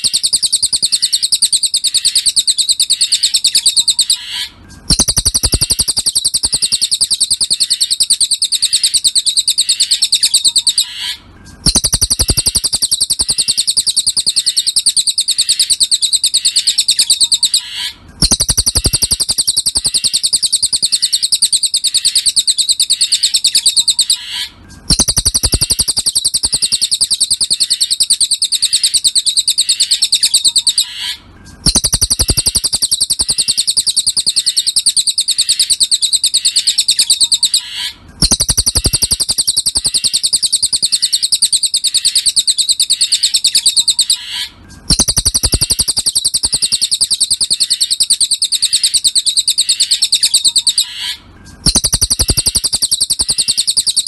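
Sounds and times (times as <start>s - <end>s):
bird chirping fast: 0.0s - 54.0s.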